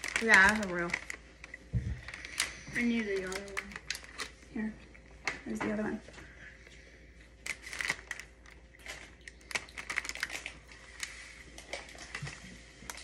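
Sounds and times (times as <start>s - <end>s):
cookies crunching: 0.0s - 5.4s, 6.4s - 13.0s.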